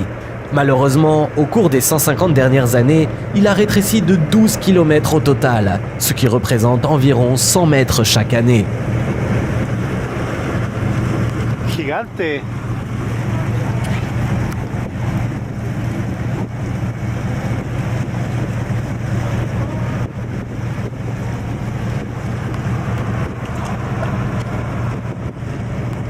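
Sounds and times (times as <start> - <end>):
low engine hum: 0.0 - 26.0
wind buffeting microphone: 0.0 - 26.0.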